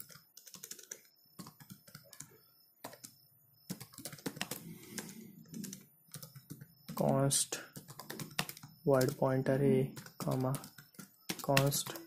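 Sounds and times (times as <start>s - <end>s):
computer keyboard typing: 0.0s - 12.0s.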